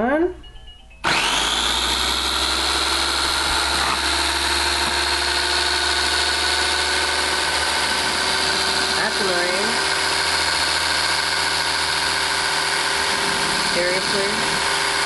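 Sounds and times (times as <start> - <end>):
electric motor whining: 1.0 - 15.0.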